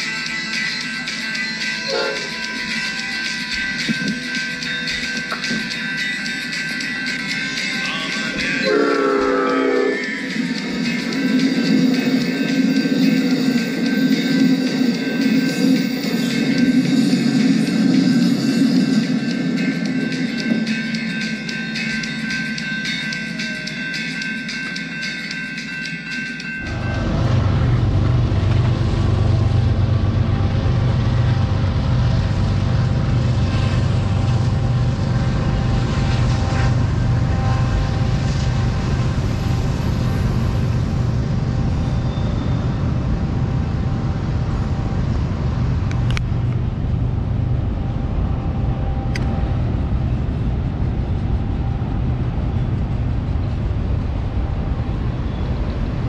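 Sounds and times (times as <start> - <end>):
freight train rumbling on rails: 0.0 - 56.0.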